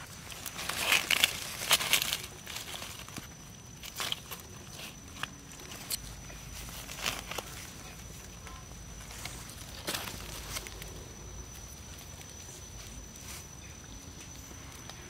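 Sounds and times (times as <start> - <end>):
leaf litter rustling and crackling: 0.0 - 15.0.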